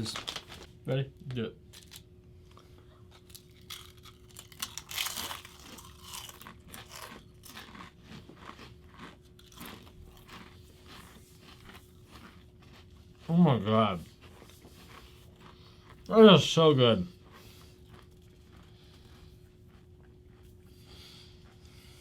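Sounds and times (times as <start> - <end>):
potato chips crunching: 0.0 - 20.6.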